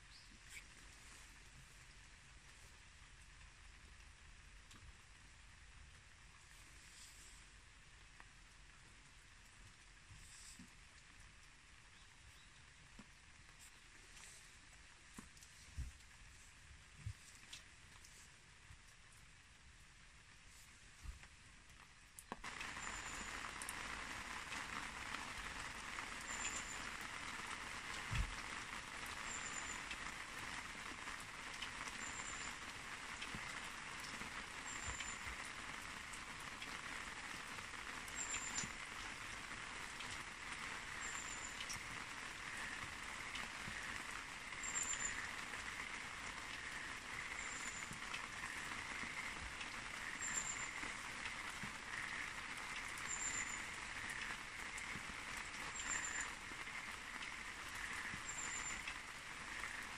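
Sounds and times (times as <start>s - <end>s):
light rain hissing: 0.0s - 59.9s.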